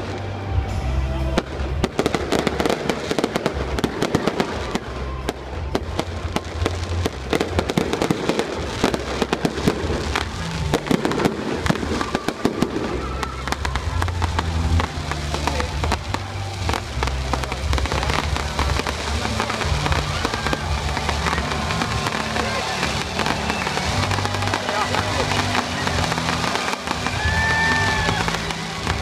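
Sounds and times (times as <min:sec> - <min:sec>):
fireworks popping and crackling: 0:00.0 - 0:29.0.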